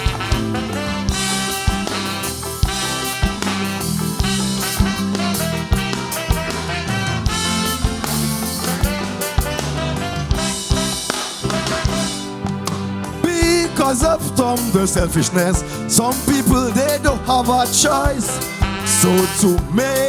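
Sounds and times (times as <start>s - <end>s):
calypso band playing: 0.0s - 20.0s
drum kit steady beat: 0.0s - 20.0s.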